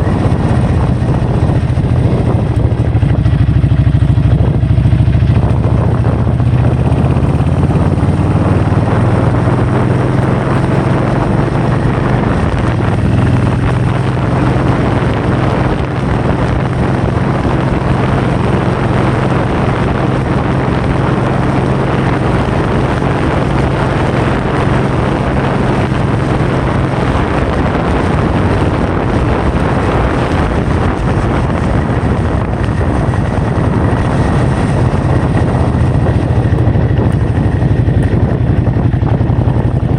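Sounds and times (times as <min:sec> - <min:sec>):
low steady drone: 0:00.0 - 0:39.9
wind rushing over microphone: 0:00.0 - 0:39.9.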